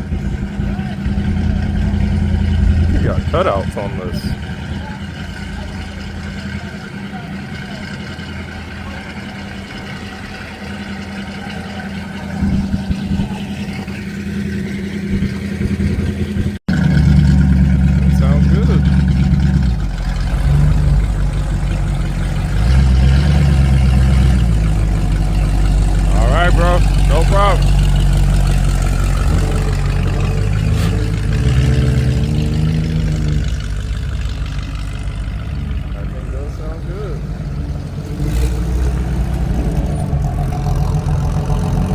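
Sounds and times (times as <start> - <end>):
car exhaust rumble: 0.0 - 41.9.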